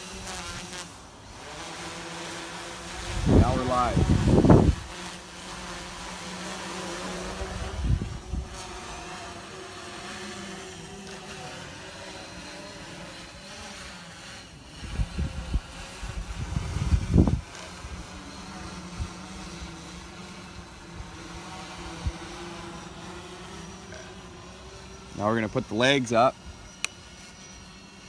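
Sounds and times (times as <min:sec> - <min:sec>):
drone rotors humming: 0:00.0 - 0:28.0.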